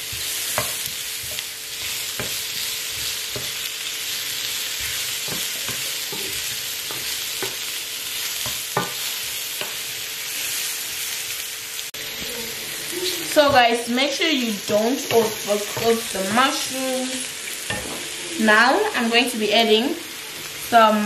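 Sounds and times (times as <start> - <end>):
mushrooms sizzling in butter: 0.0 - 21.0.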